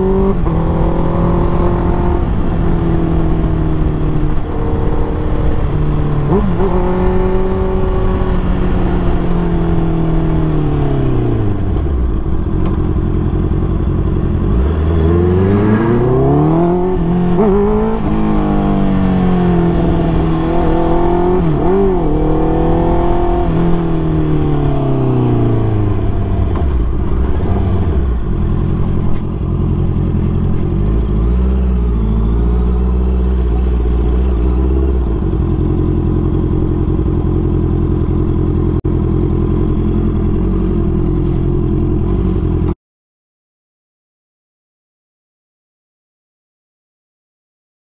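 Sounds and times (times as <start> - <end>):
motorcycle engine: 0.0 - 42.8.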